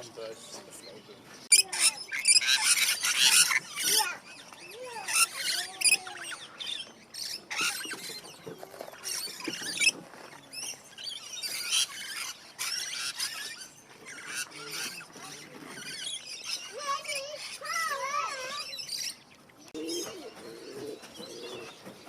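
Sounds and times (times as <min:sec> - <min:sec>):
birds chirping and squealing: 0:00.0 - 0:22.0.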